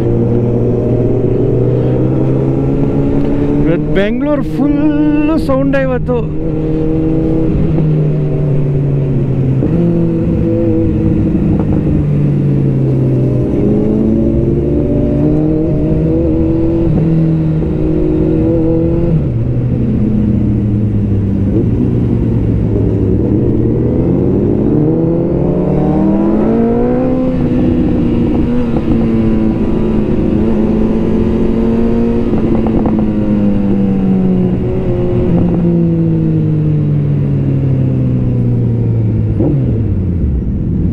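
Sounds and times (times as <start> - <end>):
superbike engines revving: 0.0 - 36.2.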